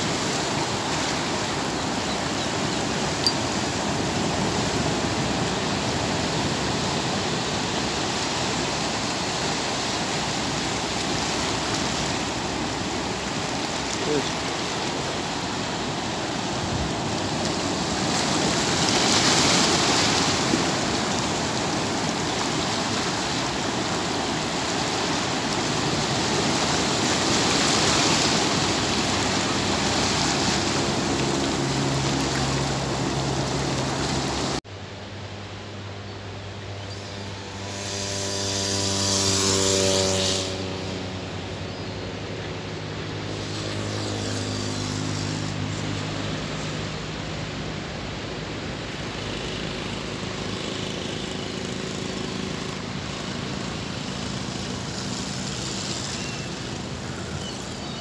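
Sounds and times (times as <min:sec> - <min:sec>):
surf washing over rocks: 0:00.0 - 0:34.6, 0:38.5 - 0:58.0.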